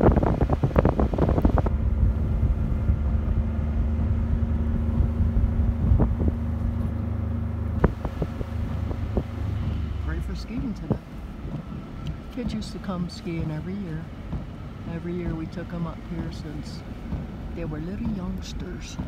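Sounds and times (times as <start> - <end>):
engine and road hum: 0.0 - 19.0.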